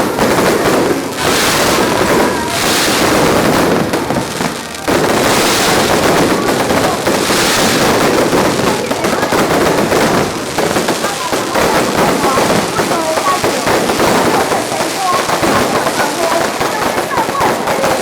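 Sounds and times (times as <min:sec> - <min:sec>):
fireworks crackling bangs: 0:00.0 - 0:18.0.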